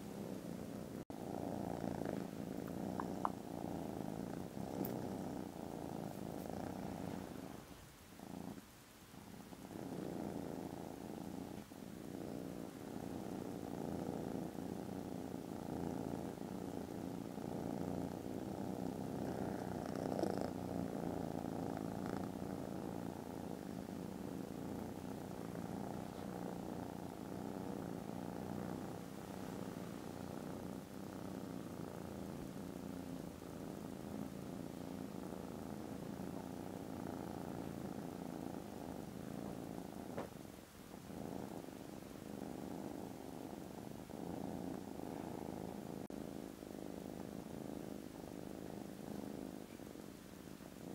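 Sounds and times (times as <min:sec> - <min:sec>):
kittens purring: 0:00.0 - 0:50.9.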